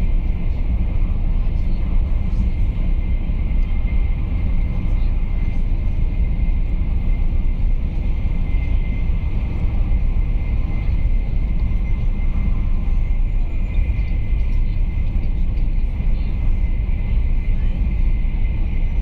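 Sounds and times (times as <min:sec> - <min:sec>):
train interior rumble: 0:00.0 - 0:19.0.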